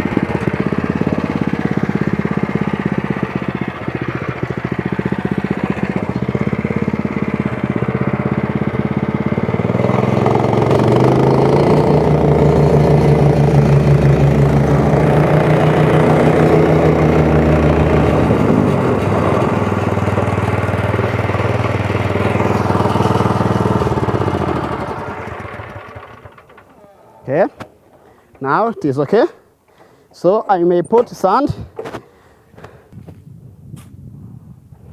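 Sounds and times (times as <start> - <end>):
compaction machine engine running: 0.0 - 31.9.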